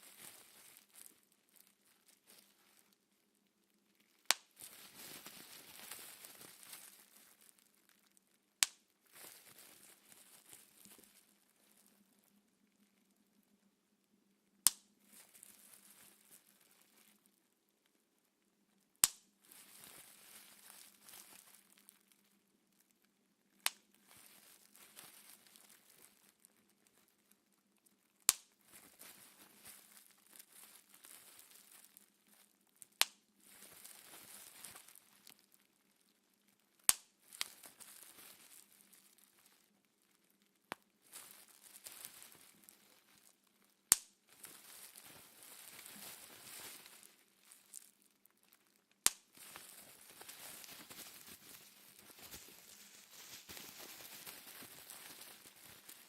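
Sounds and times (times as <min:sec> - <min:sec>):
bubble wrap popping: 0:00.0 - 0:13.2, 0:13.9 - 0:17.9, 0:18.8 - 0:56.0
plastic crinkling: 0:00.0 - 0:13.2, 0:14.9 - 0:17.4, 0:19.4 - 0:56.0.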